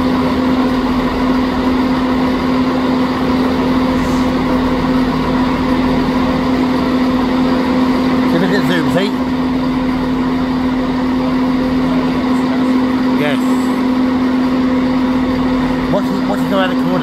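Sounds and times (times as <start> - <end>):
train diesel engines humming: 0.0 - 17.0.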